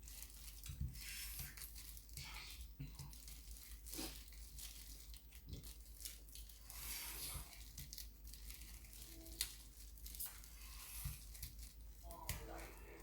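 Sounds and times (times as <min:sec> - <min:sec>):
chewing food: 0:00.0 - 0:13.0
shells crackling and tearing: 0:00.0 - 0:13.0.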